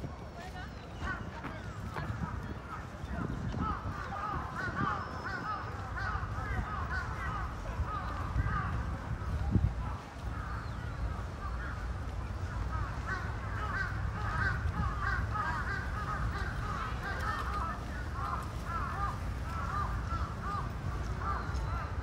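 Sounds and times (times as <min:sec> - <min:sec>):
low background murmur: 0:00.0 - 0:22.0
many birds calling: 0:00.1 - 0:22.0.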